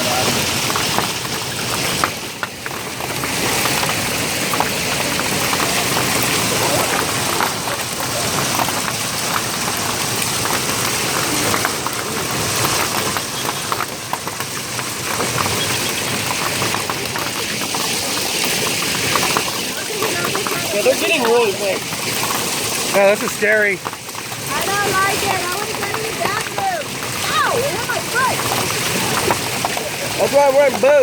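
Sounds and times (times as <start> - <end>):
hailstones striking hard surfaces: 0.0 - 31.0
heavy hail hissing: 0.0 - 31.0.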